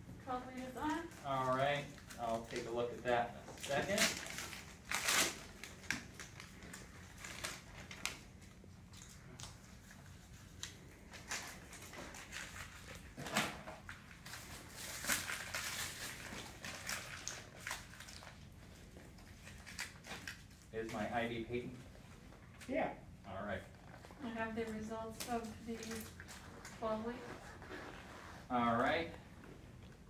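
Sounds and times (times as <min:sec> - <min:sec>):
wrappers rustling and crinkling: 0:00.3 - 0:21.3, 0:23.8 - 0:30.0.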